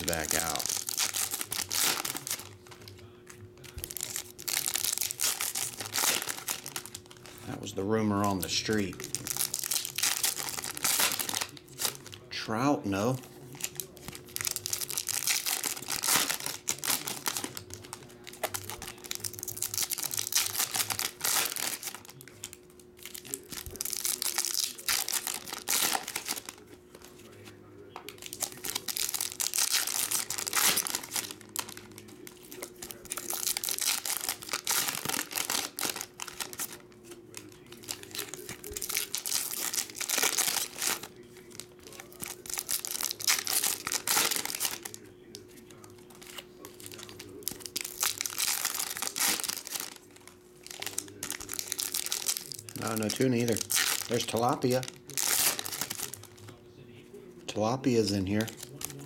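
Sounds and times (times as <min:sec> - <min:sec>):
foil wrappers crinkling: 0:00.0 - 0:59.0.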